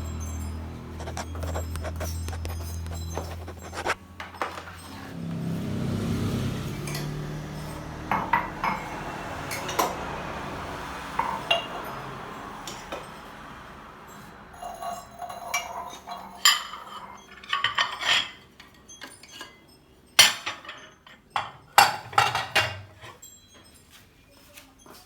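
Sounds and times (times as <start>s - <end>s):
dishes clinking and knocking: 0.0s - 5.5s, 6.8s - 13.3s, 14.2s - 23.7s.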